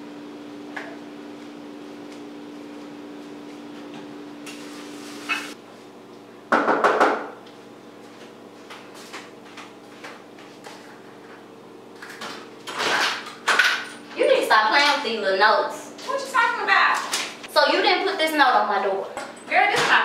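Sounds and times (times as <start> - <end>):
steady appliance hum: 0.0 - 20.0.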